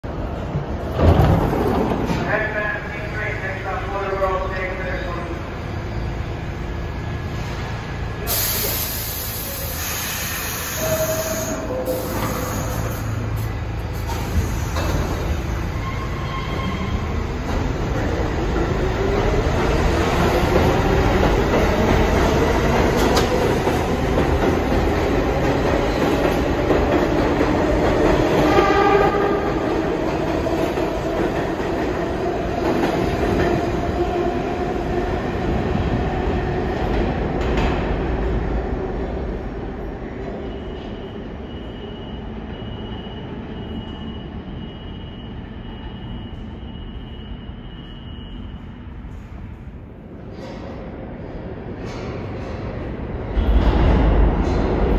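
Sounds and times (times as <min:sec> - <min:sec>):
train wheel and rail rumbling: 0:00.0 - 0:54.9.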